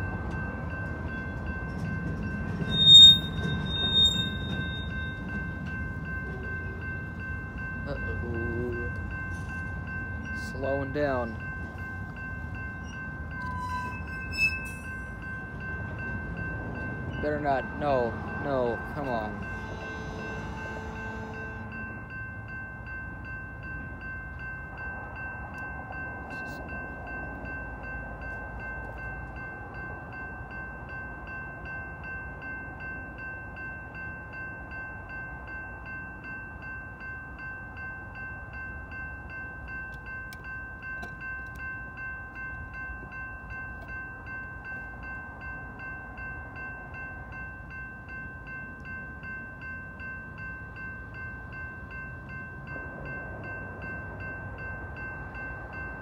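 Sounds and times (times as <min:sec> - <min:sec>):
low rumble of train: 0:00.0 - 0:56.0
railroad crossing bell ringing: 0:00.0 - 0:56.0.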